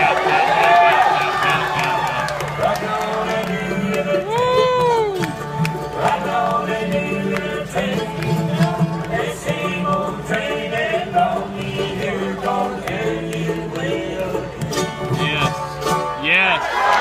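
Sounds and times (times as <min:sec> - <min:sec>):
men singing: 0:00.0 - 0:15.5
bluegrass band playing: 0:00.0 - 0:17.0.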